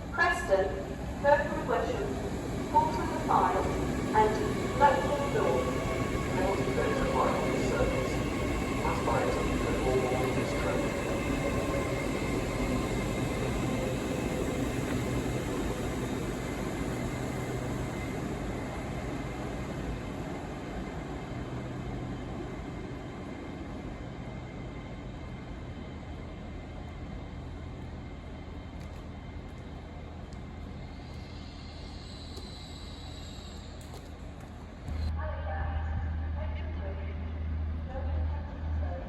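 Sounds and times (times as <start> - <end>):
train engine hum and rumble: 0.0 - 39.0.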